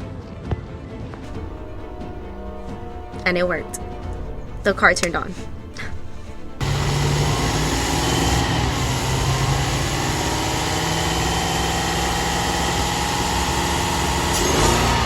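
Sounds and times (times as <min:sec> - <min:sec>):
car engine idling: 0:01.3 - 0:15.0.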